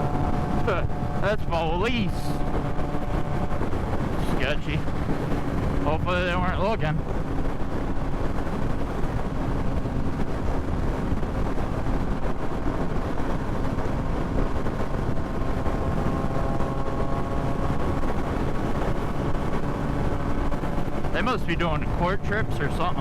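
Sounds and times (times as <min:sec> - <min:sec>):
motorcycle engine: 0:00.0 - 0:23.0
wind rushing over microphone: 0:00.0 - 0:23.0.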